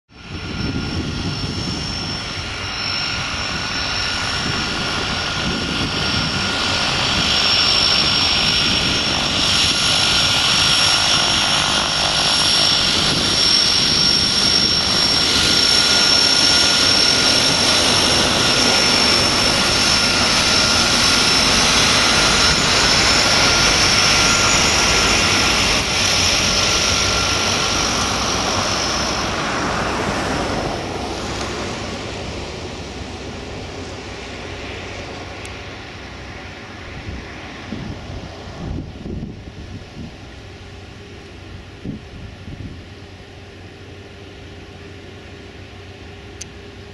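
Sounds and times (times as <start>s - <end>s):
turboprop plane taxiing: 0.1s - 46.9s.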